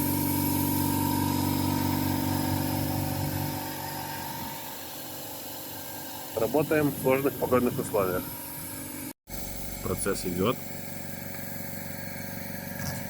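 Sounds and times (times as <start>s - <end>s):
oil pump humming: 0.0s - 13.0s.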